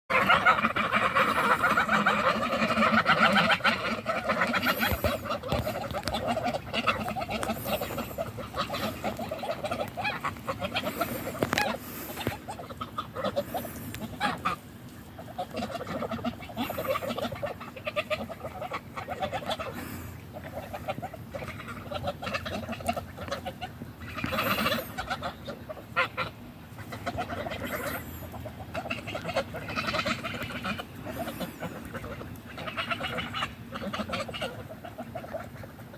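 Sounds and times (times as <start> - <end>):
geese honking and chattering: 0.1 - 35.9.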